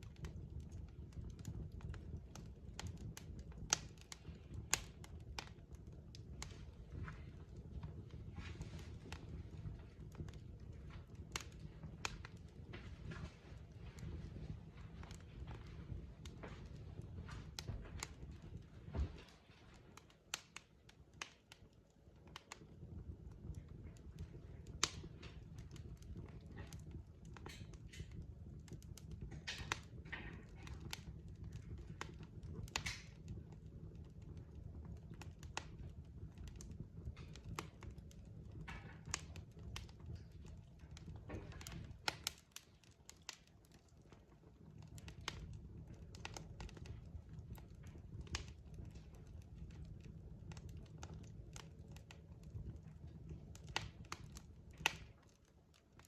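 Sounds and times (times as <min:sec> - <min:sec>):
logs crackling in fireplace: 0:00.0 - 0:56.0
low rumble of flames: 0:00.0 - 0:56.0.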